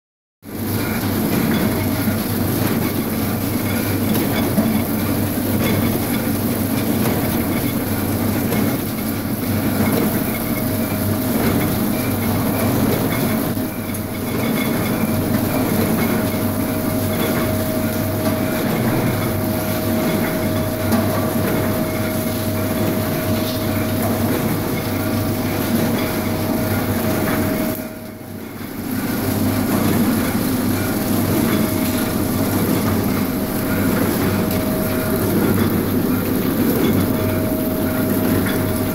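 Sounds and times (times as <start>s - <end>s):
wrapping machine clatter: 0.6s - 38.9s.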